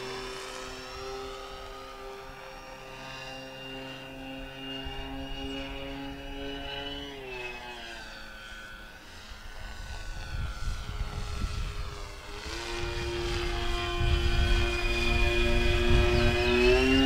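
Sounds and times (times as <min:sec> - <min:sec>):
model plane motors whining: 0:00.0 - 0:17.0.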